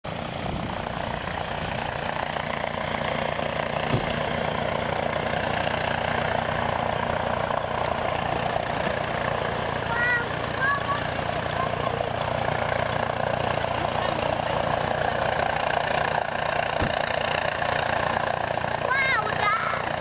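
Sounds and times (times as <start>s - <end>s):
helicopter rotor drone: 0.1s - 20.0s.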